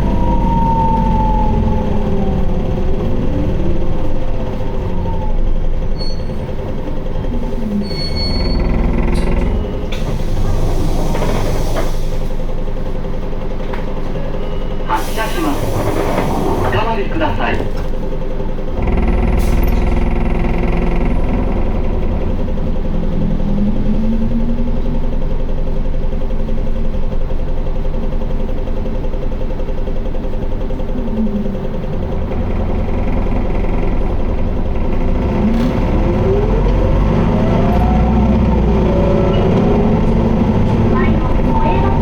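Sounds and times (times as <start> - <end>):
gearbox whine: 0.0 - 11.5, 18.5 - 42.0
bus diesel engine drone: 0.0 - 42.0.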